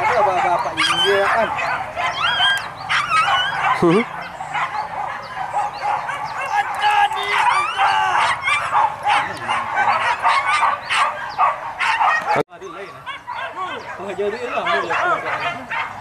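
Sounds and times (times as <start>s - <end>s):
dogs barking and yelping: 0.0s - 16.0s.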